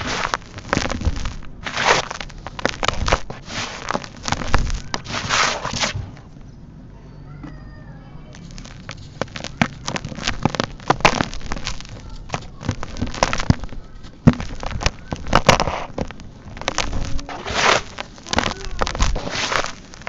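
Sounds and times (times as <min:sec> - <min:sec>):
crumbling dry cement chunks: 0:00.0 - 0:06.3, 0:08.3 - 0:20.0.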